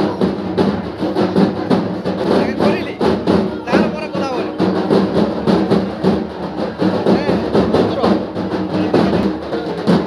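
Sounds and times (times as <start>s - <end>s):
music with drum beat: 0.0s - 10.0s.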